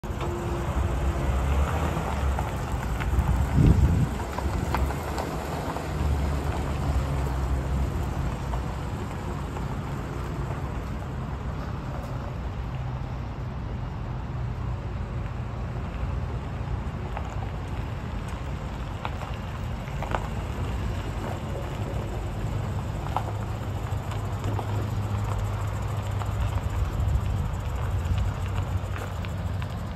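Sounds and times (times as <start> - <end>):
truck engine running: 0.0 - 29.9
tyres and feet crunching gravel: 0.1 - 12.8, 16.8 - 29.9.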